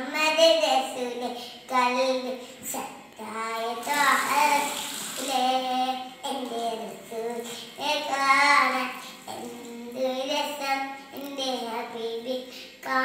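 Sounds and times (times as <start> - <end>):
boy singing unaccompanied: 0.0 - 13.0.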